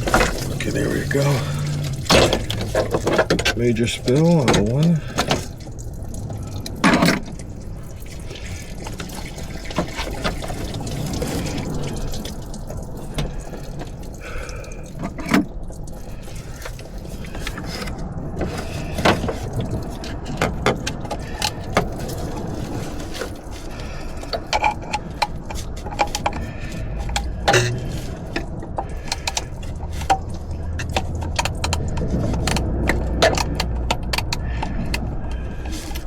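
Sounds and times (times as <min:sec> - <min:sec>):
coolant pouring and trickling: 0:00.0 - 0:36.0.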